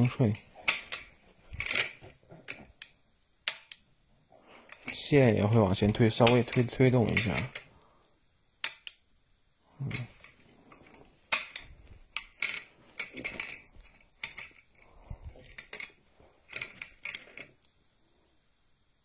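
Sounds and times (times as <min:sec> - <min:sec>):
metallic clicks and rattles: 0:00.0 - 0:18.3.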